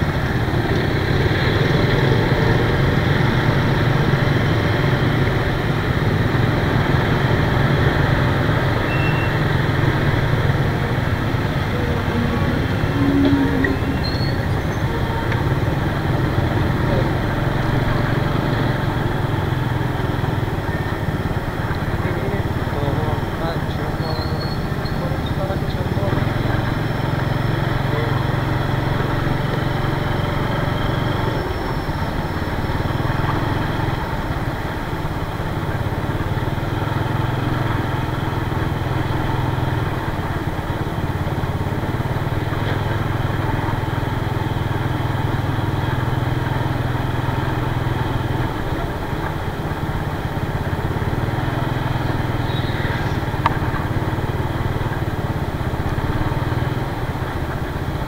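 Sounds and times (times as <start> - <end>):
motor scooter engine running: 0.0 - 58.0
road and wind noise: 0.0 - 58.0.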